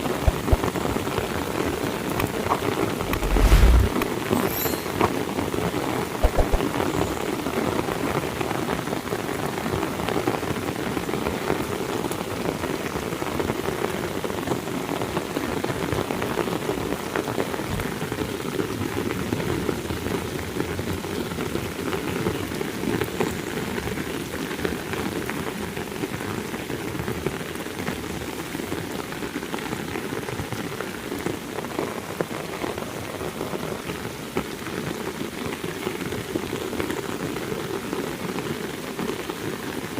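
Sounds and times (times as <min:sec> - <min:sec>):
heavy rain falling: 0:06.2 - 0:39.9.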